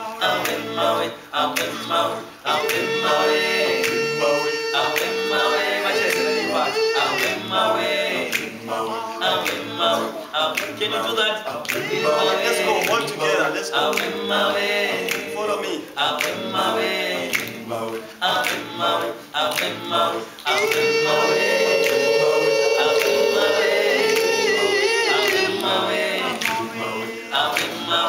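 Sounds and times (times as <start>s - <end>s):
a cappella group singing in harmony: 0.0s - 28.0s.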